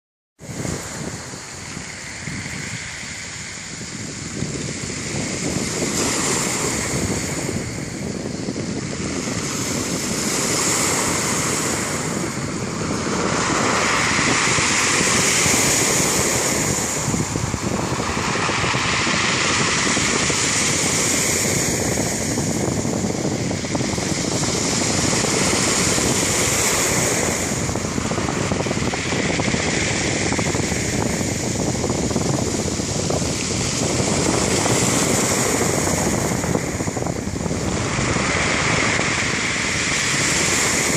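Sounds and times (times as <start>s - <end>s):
surf washing onto shore: 0.4s - 40.9s.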